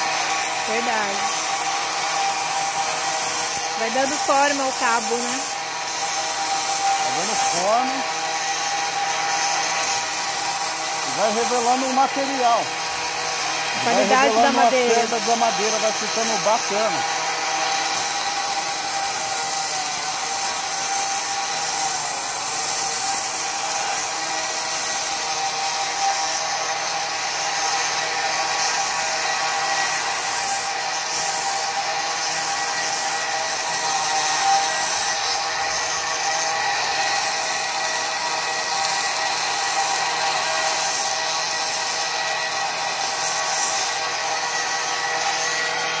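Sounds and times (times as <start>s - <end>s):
belt grinder motor whine: 0.0s - 46.0s
gritty hiss of sanding wood: 0.0s - 46.0s.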